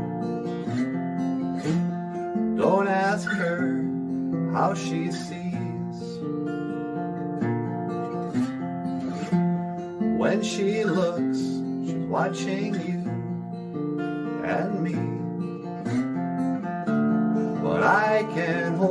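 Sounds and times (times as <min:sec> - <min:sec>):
acoustic guitar strumming chords: 0:00.0 - 0:18.9.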